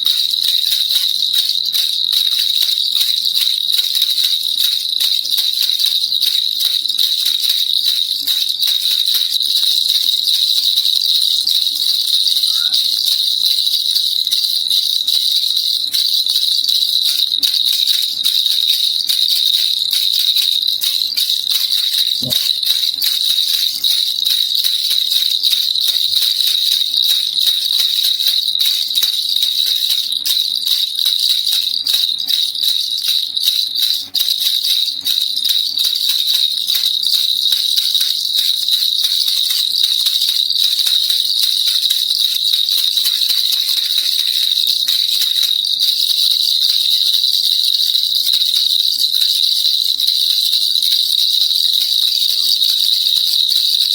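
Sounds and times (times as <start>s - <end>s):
baby rattle shaking: 0.0s - 53.9s.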